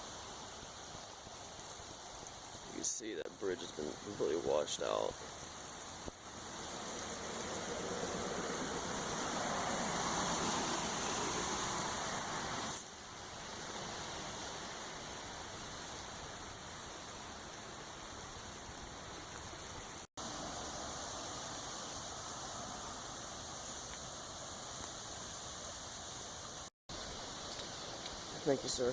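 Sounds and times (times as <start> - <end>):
creek rushing: 0.0 - 28.9.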